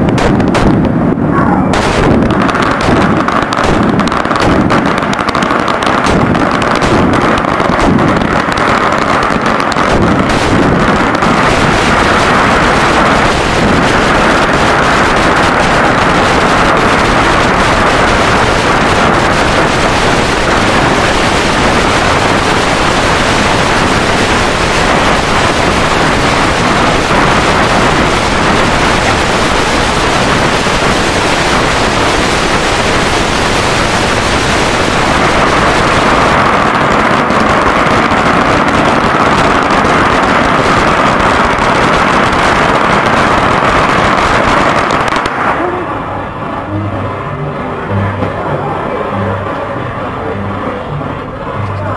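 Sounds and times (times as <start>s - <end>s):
firecrackers crackling: 0.0s - 51.9s.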